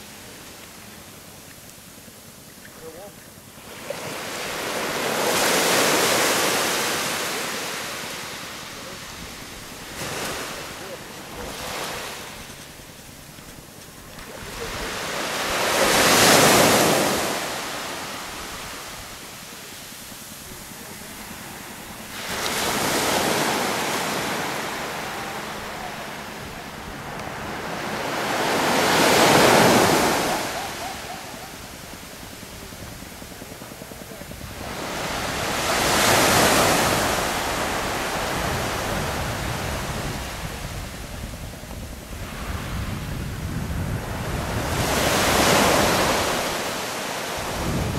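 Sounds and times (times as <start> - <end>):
waves breaking on a sandy beach: 0.0 - 47.9.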